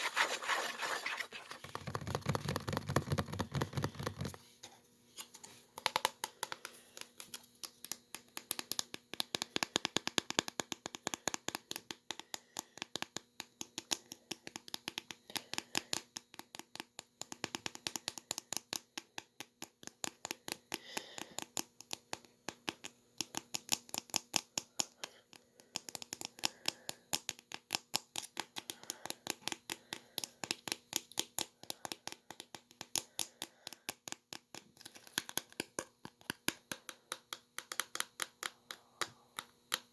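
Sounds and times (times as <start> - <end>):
typing on laptop keyboard: 1.7 - 4.4, 5.8 - 39.9.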